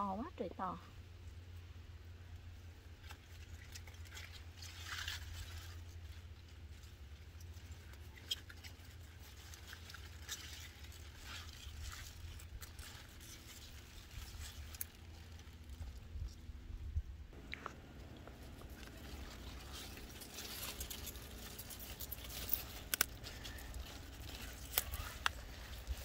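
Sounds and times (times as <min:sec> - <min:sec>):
leaves rustling and crackling: 0:02.1 - 0:26.0.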